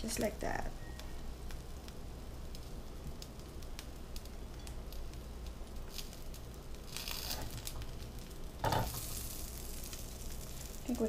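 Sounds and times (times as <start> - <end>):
butter crackling in a frying pan: 0.0 - 11.0.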